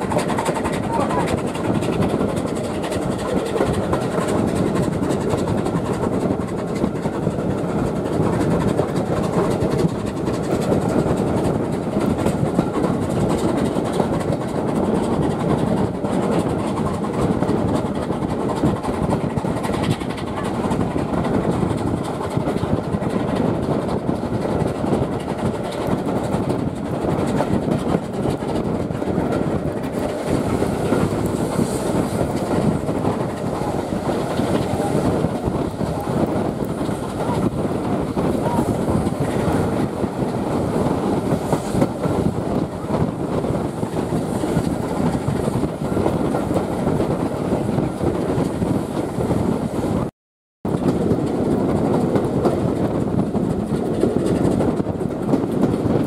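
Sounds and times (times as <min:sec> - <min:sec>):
train wheels rumbling on rails: 0:00.0 - 0:50.1, 0:50.7 - 0:56.0.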